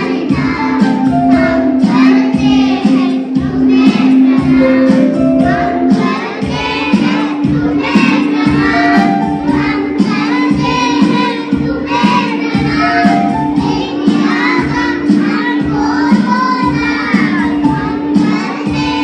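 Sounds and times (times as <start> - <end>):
children singing together: 0.0 - 19.0
instrumental backing music: 0.0 - 19.0.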